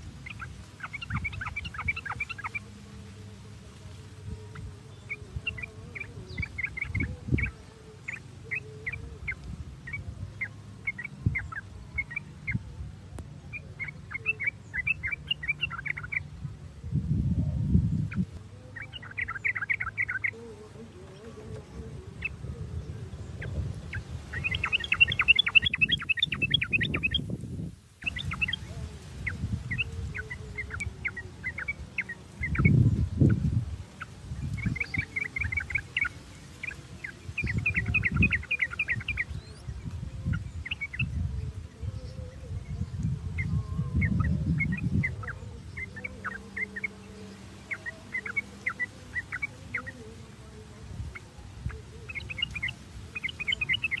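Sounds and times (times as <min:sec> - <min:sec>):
bulbuls chattering: 0:00.0 - 0:27.4, 0:28.0 - 0:54.0.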